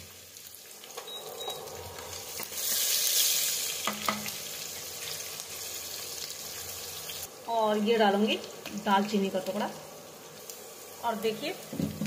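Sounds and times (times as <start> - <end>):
onion and spices sizzling in oil: 0.0 - 12.0.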